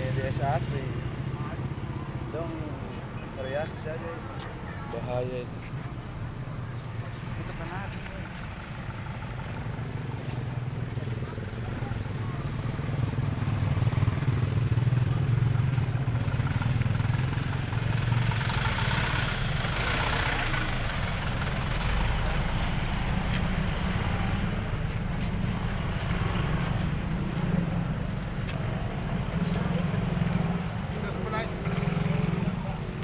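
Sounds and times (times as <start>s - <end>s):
road traffic engines humming: 0.0s - 33.0s.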